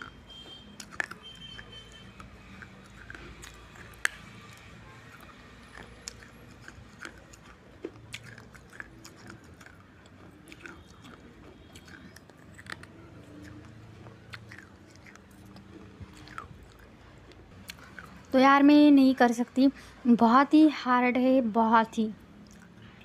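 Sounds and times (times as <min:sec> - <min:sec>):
chewing hard clay: 0:00.0 - 0:20.0, 0:22.3 - 0:23.0.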